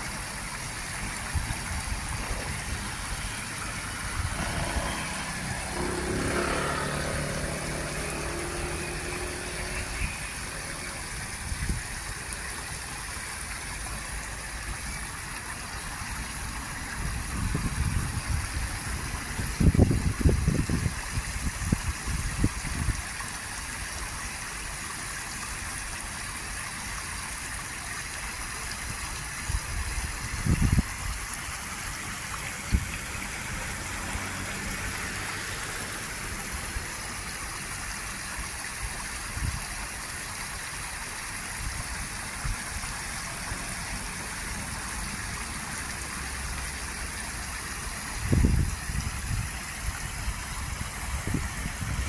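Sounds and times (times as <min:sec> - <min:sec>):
water rushing over weir: 0:00.0 - 0:52.0.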